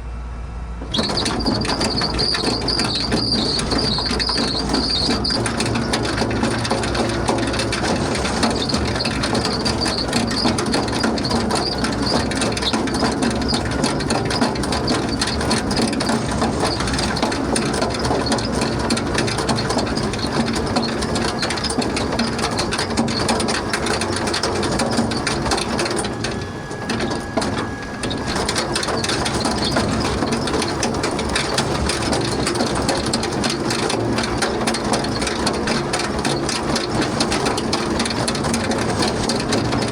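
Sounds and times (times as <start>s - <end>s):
farm machinery rattling: 0.8s - 39.9s.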